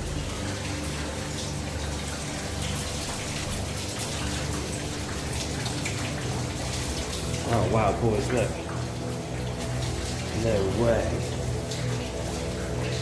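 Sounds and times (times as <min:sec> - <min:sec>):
water dripping: 0:00.0 - 0:13.0
water running hiss: 0:00.0 - 0:13.0.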